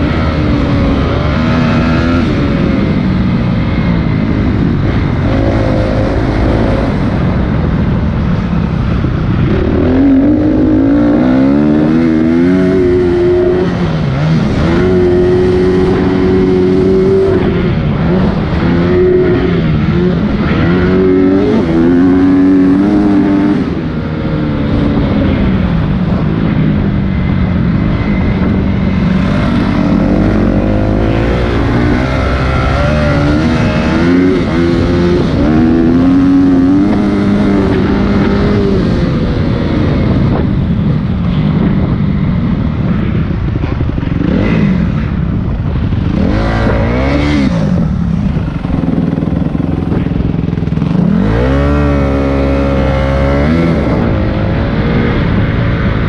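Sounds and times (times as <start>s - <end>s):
dirt bike engine revving: 0.0s - 26.3s, 27.2s - 40.6s, 41.3s - 56.0s.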